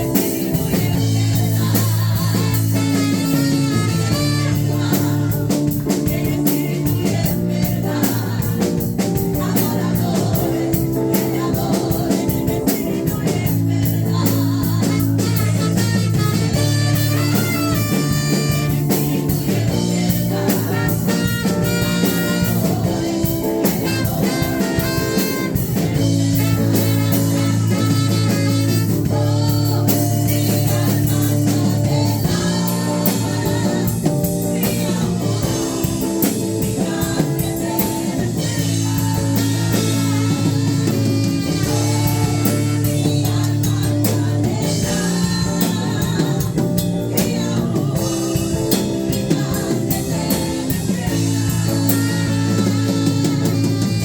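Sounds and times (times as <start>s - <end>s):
worship band playing: 0.0s - 54.0s.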